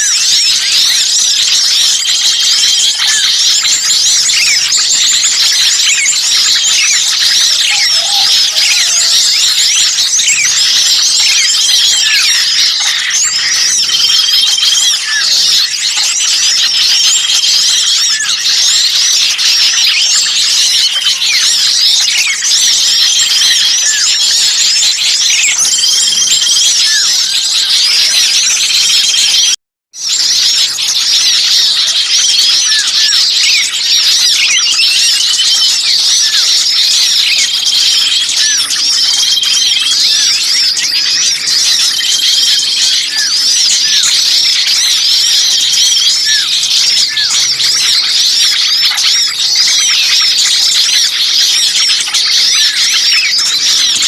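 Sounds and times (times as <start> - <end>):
songbirds chirping agitatedly: 0.0 - 54.0
whistled bird note: 0.0 - 54.0.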